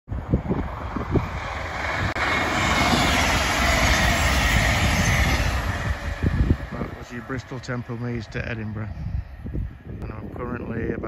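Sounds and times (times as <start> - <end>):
train passing at speed: 0.1 - 11.0
wind buffeting microphone: 0.1 - 11.0.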